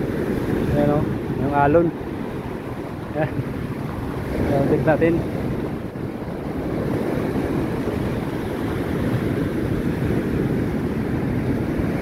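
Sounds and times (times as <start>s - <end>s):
waves washing on sand: 0.0s - 12.0s.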